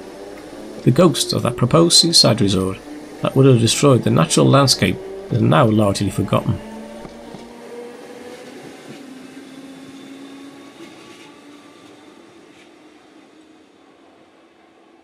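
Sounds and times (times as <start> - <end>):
electric train motors whining: 0.0 - 14.6.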